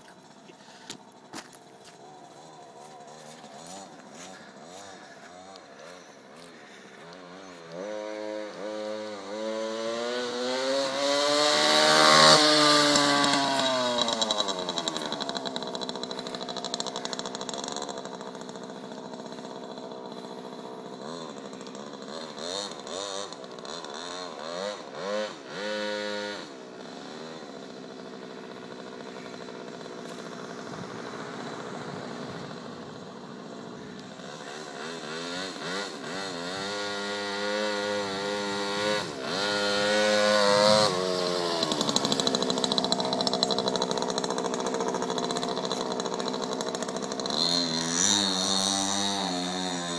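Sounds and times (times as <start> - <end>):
mini-bike engine riding past: 0.0 - 49.9.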